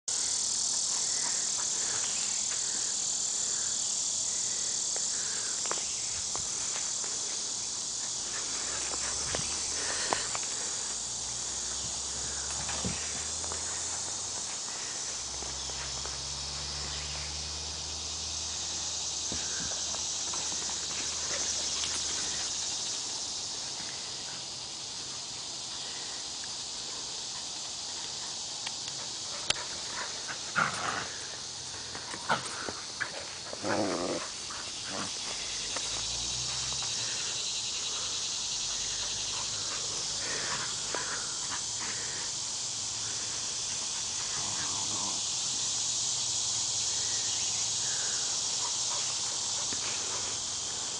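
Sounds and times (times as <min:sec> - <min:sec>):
steady high hiss: 0:00.1 - 0:50.9.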